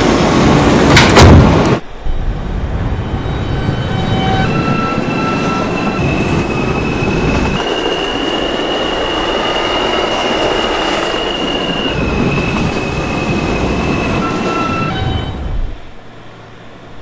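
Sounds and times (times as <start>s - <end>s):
subway wheels squealing: 0.0s - 17.0s
train rumble: 0.0s - 17.0s.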